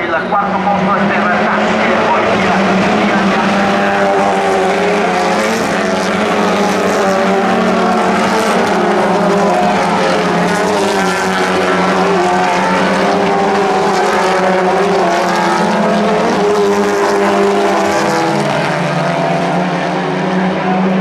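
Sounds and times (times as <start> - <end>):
racing car engines at speed: 0.0 - 21.0.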